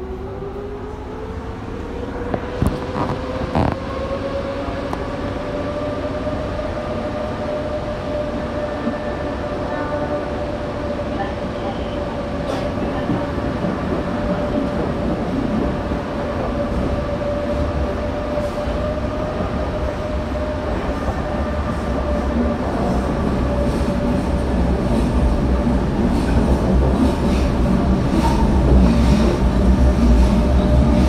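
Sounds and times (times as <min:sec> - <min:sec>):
train rumble with whine: 0:00.0 - 0:31.0.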